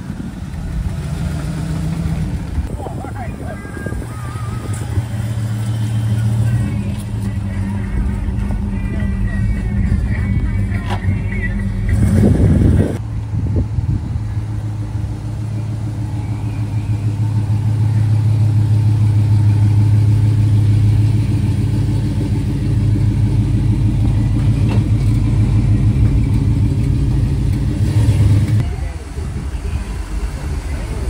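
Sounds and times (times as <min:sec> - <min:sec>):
car engine deep rumble: 0:00.0 - 0:31.0.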